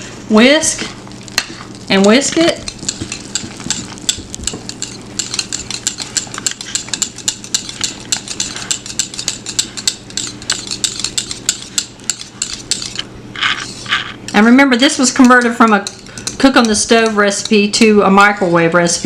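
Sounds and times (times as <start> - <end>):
whisk clicking and scraping bowl: 0.4 - 19.0.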